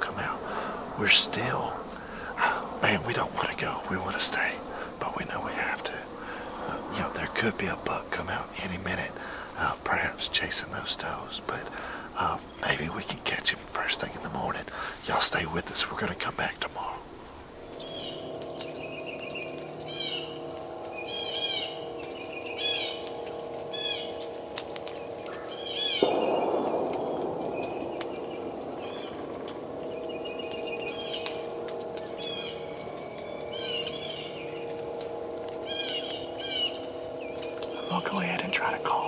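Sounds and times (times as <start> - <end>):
songbirds chirping: 0.0 - 39.0
steady low hum: 0.0 - 39.0.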